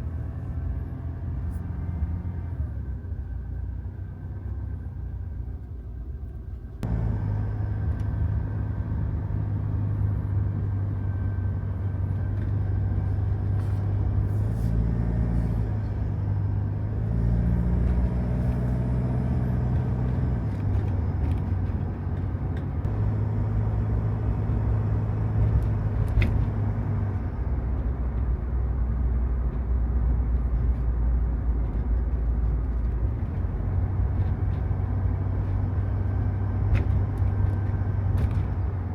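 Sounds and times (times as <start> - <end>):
van engine humming: 0.0 - 38.9.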